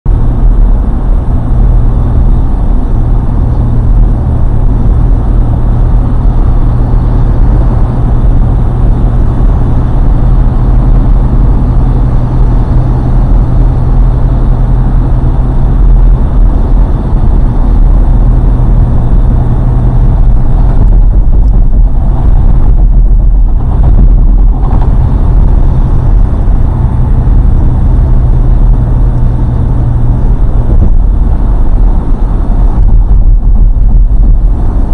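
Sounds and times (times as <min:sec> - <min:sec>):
car road and engine rumble: 0:00.0 - 0:34.9.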